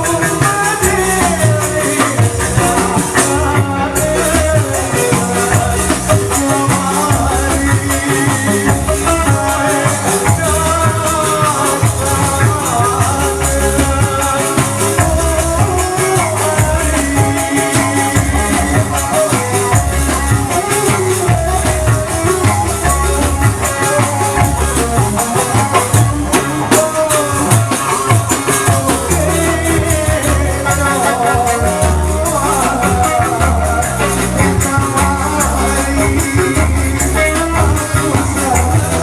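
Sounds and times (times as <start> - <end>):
continuous bass: 0.0 - 39.0
drums beat: 0.0 - 39.0
wavering melody line: 0.0 - 39.0.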